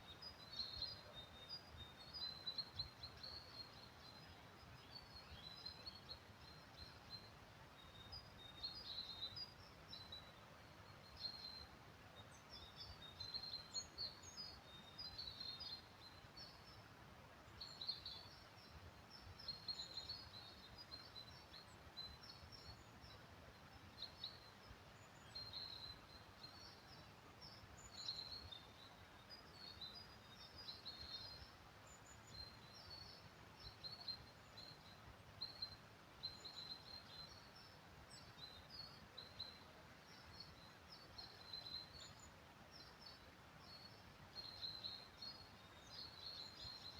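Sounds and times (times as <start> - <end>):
low background hiss: 0.0 - 46.9
songbirds chirping: 0.0 - 46.9.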